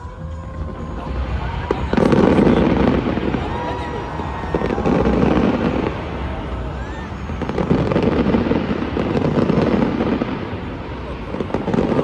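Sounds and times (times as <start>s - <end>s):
crowd voices: 0.0s - 12.0s
fireworks bangs and crackles: 0.0s - 12.0s.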